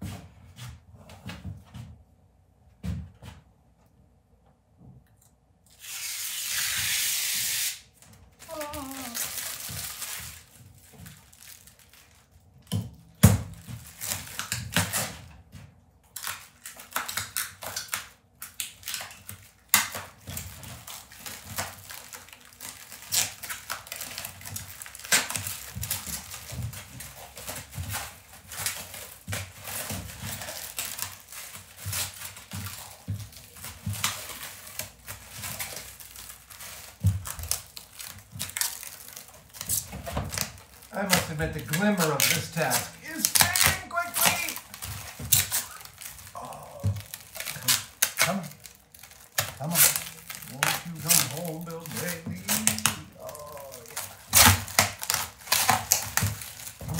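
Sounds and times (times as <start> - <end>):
plastic film crinkling: 5.7 - 15.5, 16.1 - 56.9.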